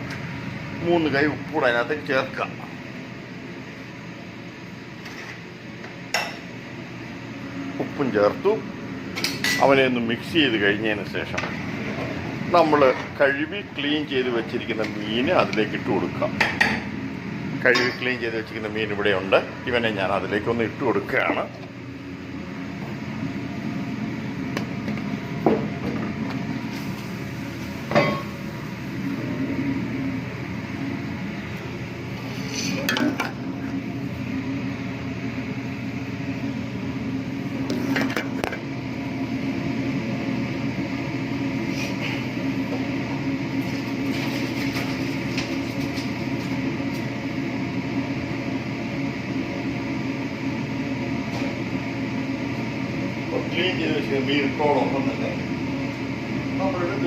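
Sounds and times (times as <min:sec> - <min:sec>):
steady kitchen hum: 0:00.0 - 0:57.0.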